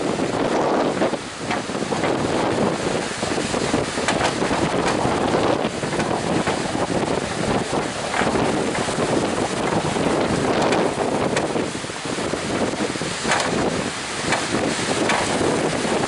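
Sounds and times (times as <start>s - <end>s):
heavy surf breaking: 0.0s - 16.0s
strong wind buffeting microphone: 0.0s - 16.0s.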